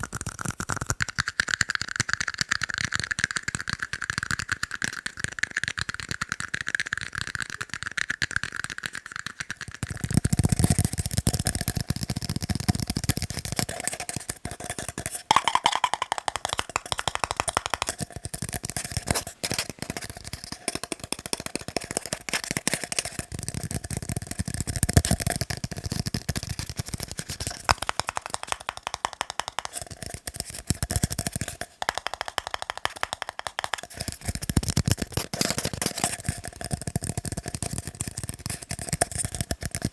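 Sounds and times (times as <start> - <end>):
fast tapping on tiny cups: 0.0 - 39.9.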